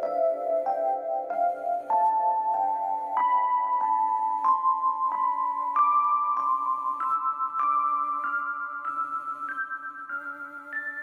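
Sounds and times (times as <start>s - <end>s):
slow melody of ringing notes: 0.0s - 11.0s.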